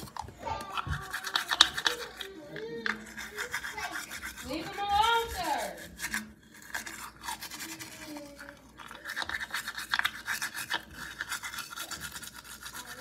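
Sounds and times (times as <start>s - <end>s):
toothbrush scrubbing teeth: 0.0s - 13.0s.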